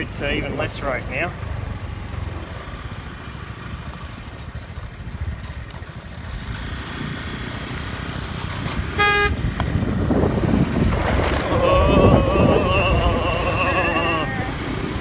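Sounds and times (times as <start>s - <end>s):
motor scooter engine running: 1.4s - 15.0s.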